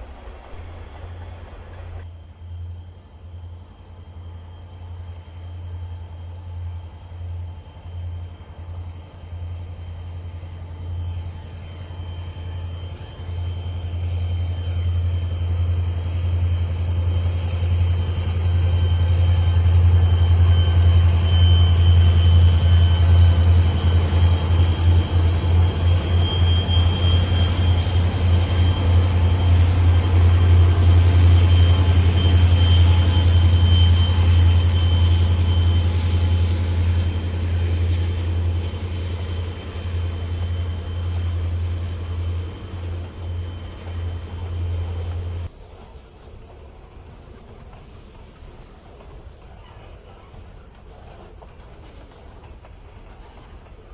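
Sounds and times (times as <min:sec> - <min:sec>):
train cars rolling: 0:00.0 - 0:02.1, 0:04.7 - 0:53.9
diesel locomotive engine rumbling: 0:00.0 - 0:53.9.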